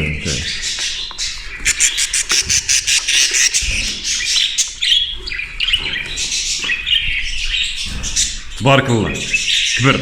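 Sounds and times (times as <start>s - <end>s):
budgerigars chirping: 0.0s - 10.0s.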